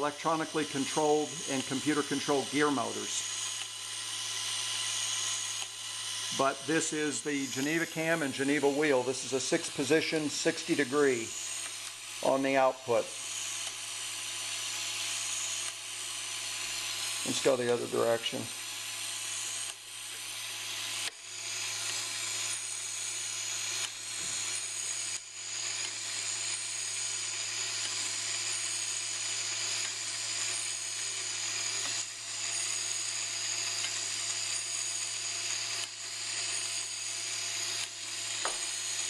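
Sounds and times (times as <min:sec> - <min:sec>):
electric gear motor humming: 0:00.0 - 0:39.0.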